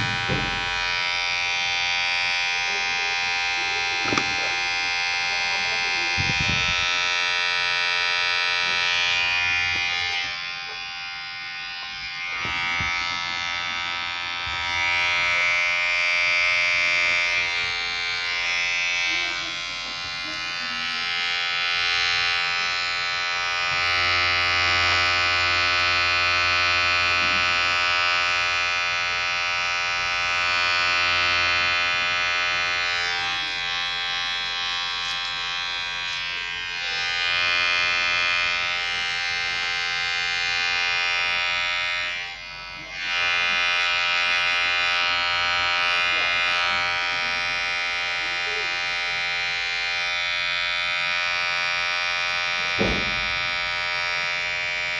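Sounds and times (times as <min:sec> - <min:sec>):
electric hair clipper buzzing: 0:00.0 - 0:54.9.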